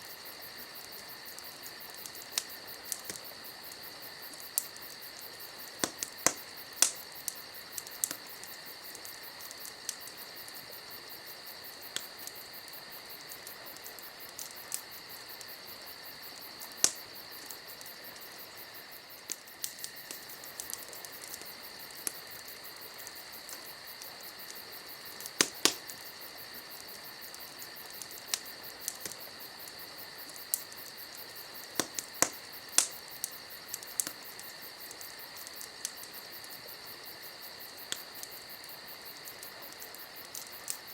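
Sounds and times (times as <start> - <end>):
campfire crackling and popping: 0.0 - 40.9
crickets chirping: 0.0 - 40.9.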